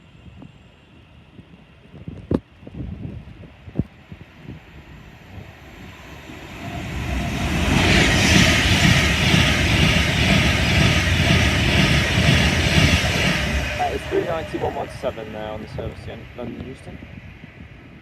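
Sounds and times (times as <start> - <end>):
deep rumble: 2.0 - 18.0
train passing at speed: 2.6 - 18.0.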